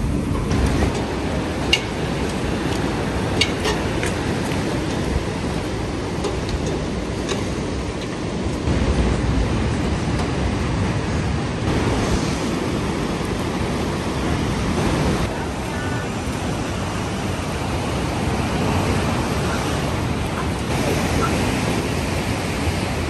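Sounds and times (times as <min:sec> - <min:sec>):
ocean surf rushing: 0:00.0 - 0:23.0
wind rumbling on microphone: 0:00.0 - 0:23.0.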